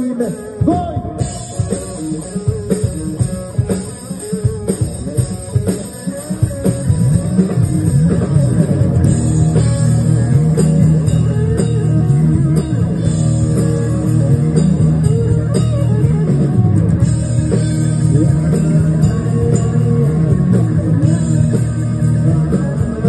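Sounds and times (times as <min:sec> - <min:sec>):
bass guitar: 0:00.0 - 0:23.0
drums: 0:00.0 - 0:23.0
electric guitars: 0:00.0 - 0:23.0.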